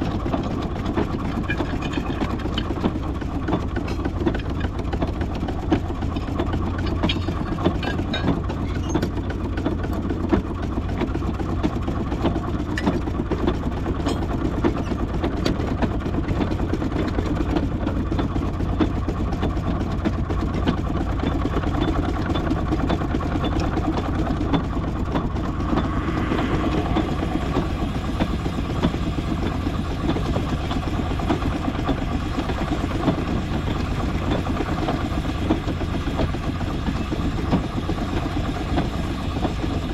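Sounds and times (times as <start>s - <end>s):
clanks and ticks: 0.0s - 39.9s
large engine rumbling: 0.0s - 39.9s.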